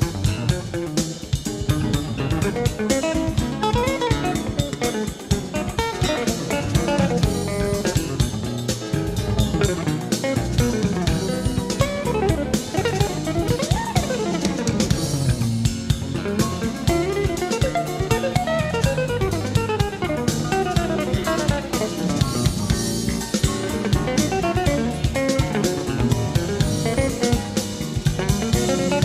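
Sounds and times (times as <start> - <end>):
bass: 0.0 - 29.0
drum kit: 0.0 - 29.0
jazz guitar runs: 0.0 - 29.0.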